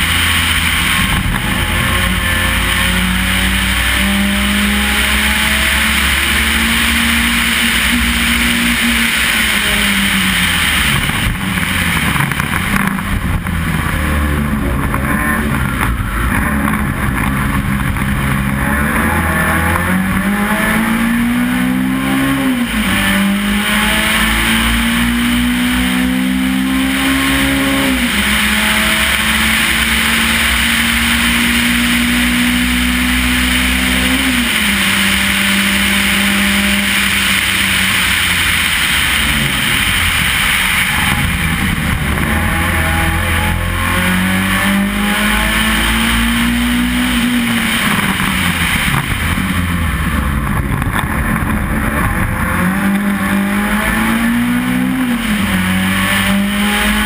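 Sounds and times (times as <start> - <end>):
race car engine under full throttle: 0.0 - 57.0
wind and road noise: 0.0 - 57.0.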